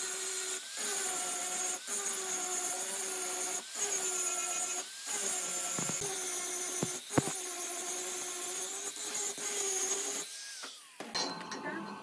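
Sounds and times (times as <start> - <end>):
power tool motor running: 0.0 - 11.1.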